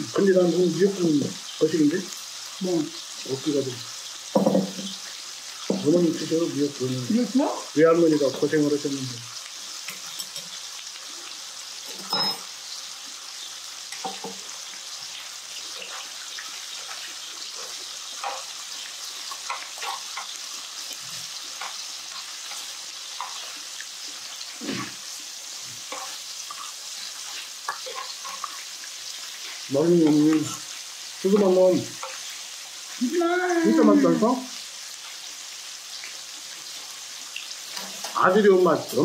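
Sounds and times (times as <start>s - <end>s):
meat sizzling in a frying pan: 0.0s - 39.0s.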